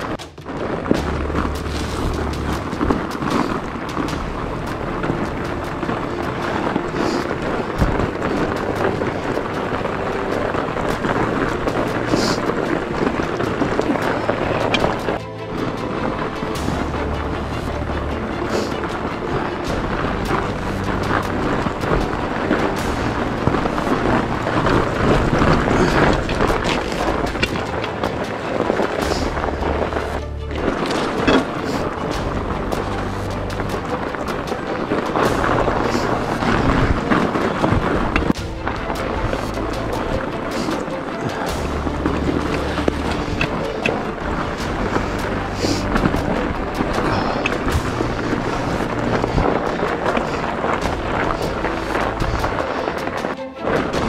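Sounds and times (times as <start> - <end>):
tyres rumbling on snow: 0.0 - 54.0
wind buffeting microphone: 0.0 - 54.0.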